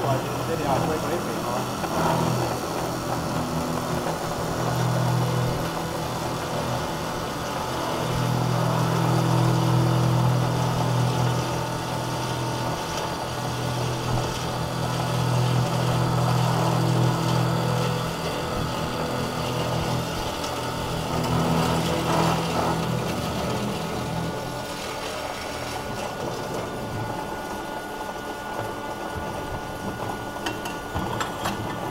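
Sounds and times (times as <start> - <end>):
circular sawing machine humming: 0.0 - 31.9.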